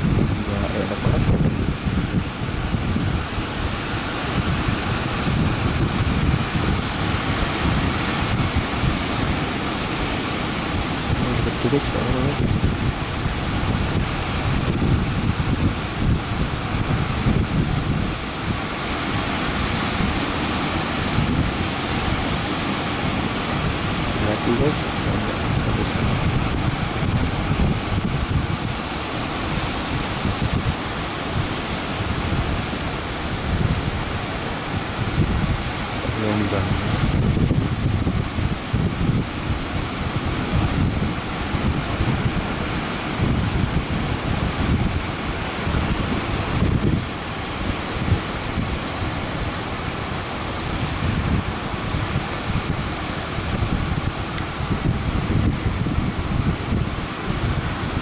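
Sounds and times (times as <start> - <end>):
surf breaking: 0.0 - 58.0
wind buffeting microphone: 0.0 - 58.0.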